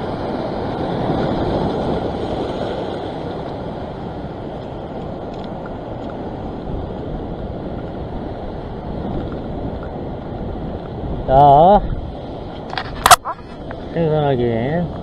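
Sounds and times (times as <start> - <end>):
sea surf: 0.0 - 15.0
wind on microphone: 0.0 - 15.0.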